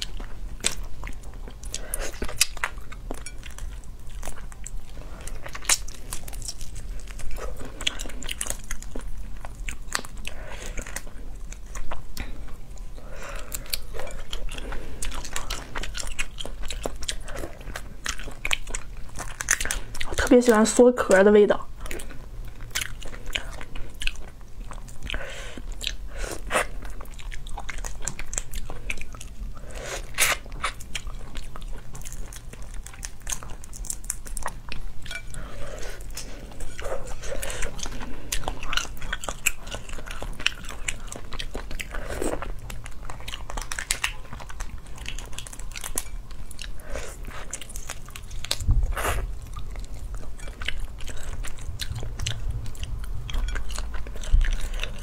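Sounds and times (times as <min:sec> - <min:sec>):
chewing: 0:00.0 - 0:20.7, 0:21.6 - 0:55.0.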